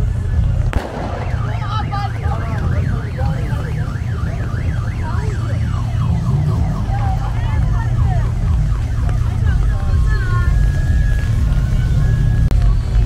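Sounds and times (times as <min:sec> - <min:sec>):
street noise rumble: 0:00.0 - 0:13.0
electronic siren yelping: 0:01.2 - 0:12.5.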